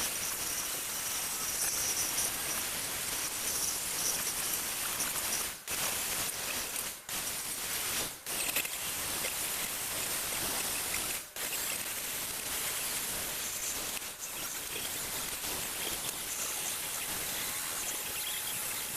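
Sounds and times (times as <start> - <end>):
spray hissing: 0.0 - 18.9.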